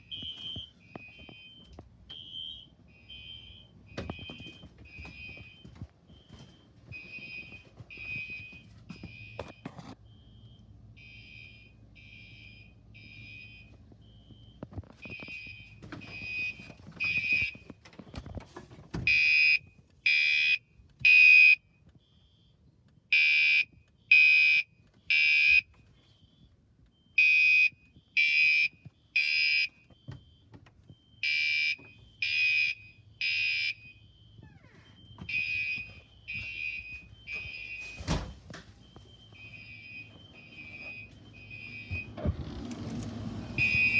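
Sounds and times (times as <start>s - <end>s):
fire alarm tones: 0.0s - 18.4s, 19.0s - 42.3s, 43.4s - 43.9s.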